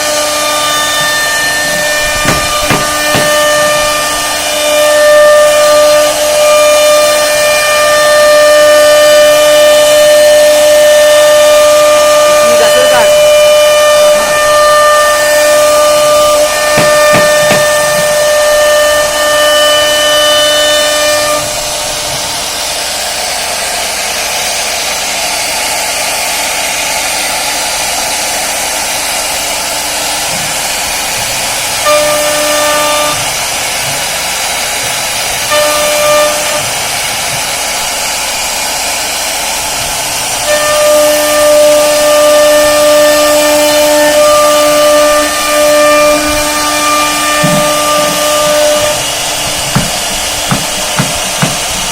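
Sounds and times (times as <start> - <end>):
hiss of cutting wood: 0.0 - 51.9
router high whine: 0.0 - 51.9.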